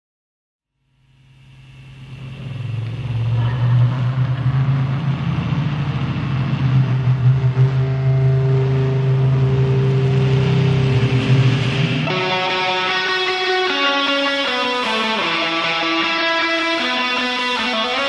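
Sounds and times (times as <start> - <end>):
low engine-like drone: 0.9 - 18.0.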